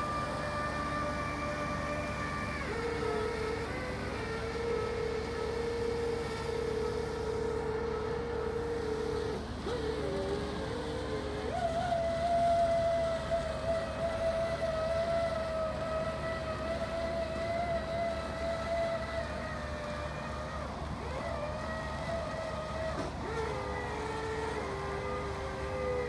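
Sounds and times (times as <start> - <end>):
engine drone with high whine: 0.0 - 26.0.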